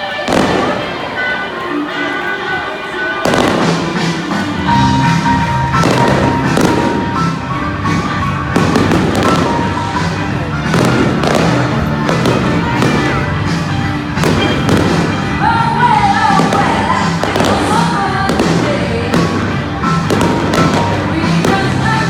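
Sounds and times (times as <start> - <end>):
fireworks banging: 0.0 - 1.7, 3.1 - 22.0
loud music: 0.0 - 22.0.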